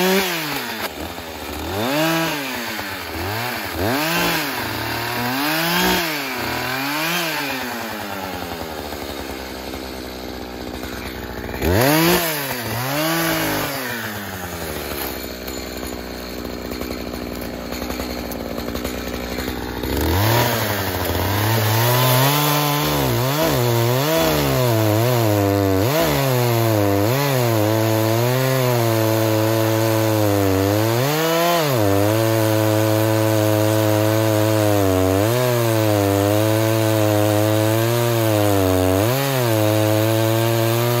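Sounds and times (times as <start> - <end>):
chainsaw revving and cutting log: 0.0 - 41.0.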